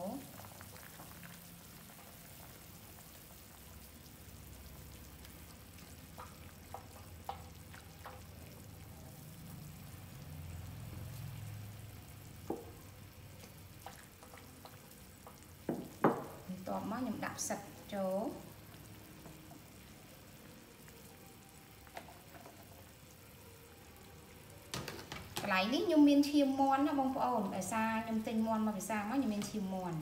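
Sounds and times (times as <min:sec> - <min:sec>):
soup bubbling in a pot: 0:00.0 - 0:30.0.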